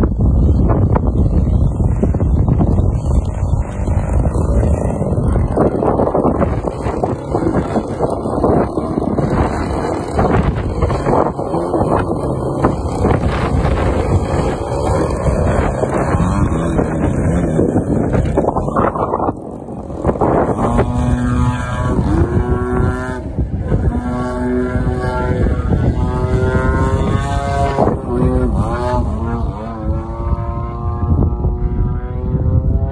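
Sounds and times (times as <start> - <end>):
wind noise on microphone: 0.0 - 32.9
model airplane motor buzzing: 0.2 - 32.4.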